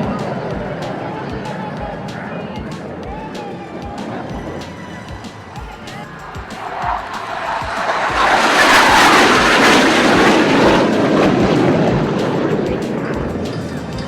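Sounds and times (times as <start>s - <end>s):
jet engine passing low: 0.0s - 14.0s.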